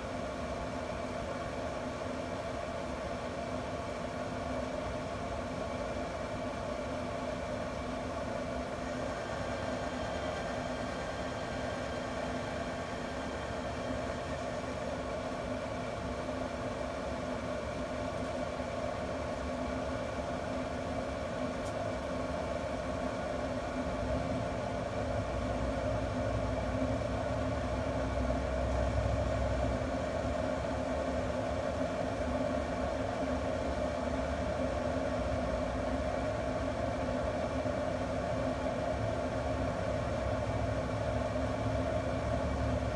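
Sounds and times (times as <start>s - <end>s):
fan mechanical hum: 0.0s - 42.9s.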